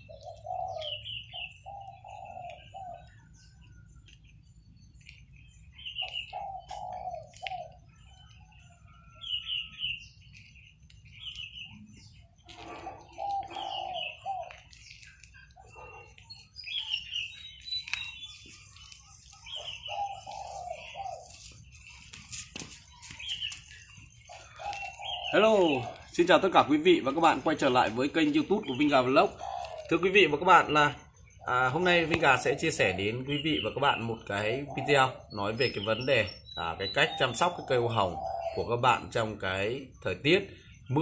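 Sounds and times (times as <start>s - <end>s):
birds calling and chirping: 0.0s - 41.0s.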